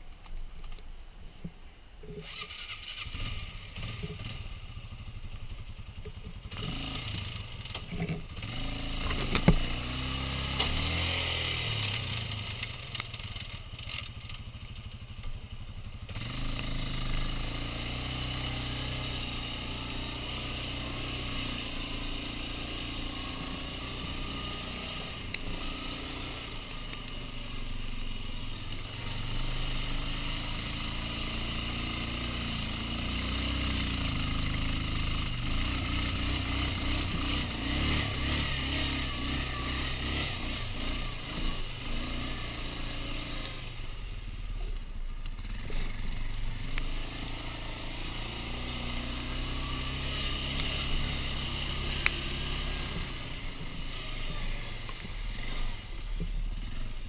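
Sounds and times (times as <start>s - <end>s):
quad bike engine running: 2.2s - 57.0s.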